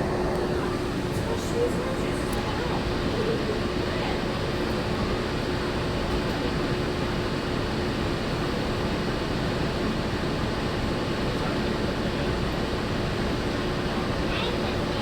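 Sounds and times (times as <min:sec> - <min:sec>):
constant hum: 0:00.0 - 0:15.0
monorail cabin rumble and hiss: 0:00.0 - 0:15.0.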